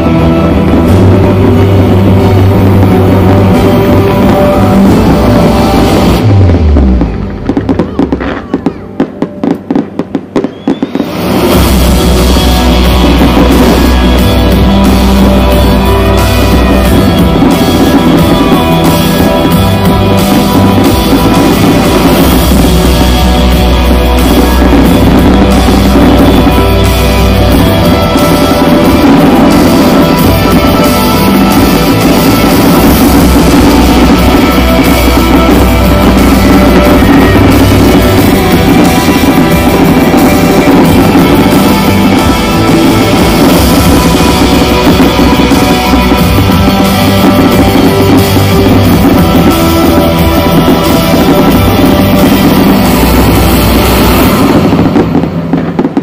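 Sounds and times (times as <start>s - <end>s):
loud rock music: 0.0s - 56.0s.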